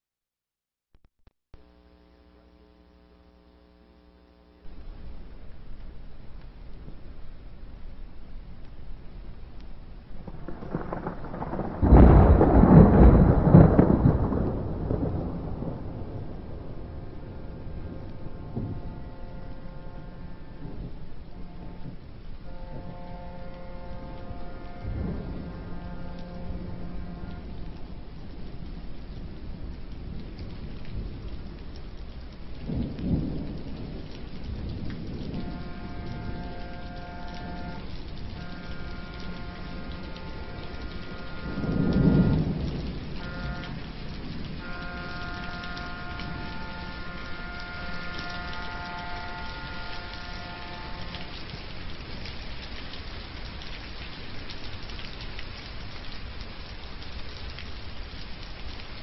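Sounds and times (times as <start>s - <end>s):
rain hissing: 1.6s - 59.0s
thunder rumbling: 4.7s - 59.0s.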